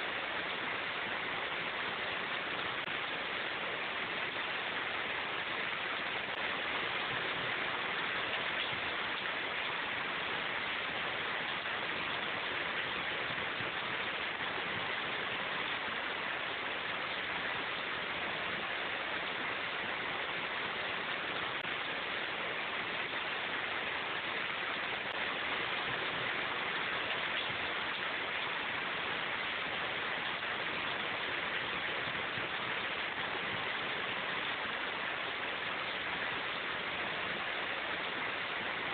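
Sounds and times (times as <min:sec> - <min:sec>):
rain falling in forest: 0:00.0 - 0:38.9.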